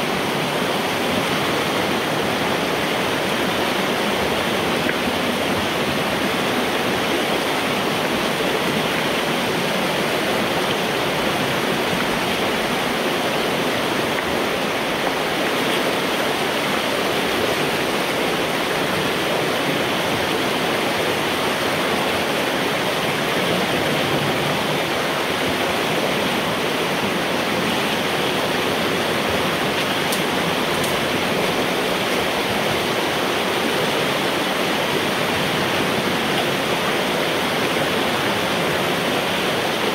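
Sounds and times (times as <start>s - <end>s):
water rushing through pipe: 0.0s - 39.9s.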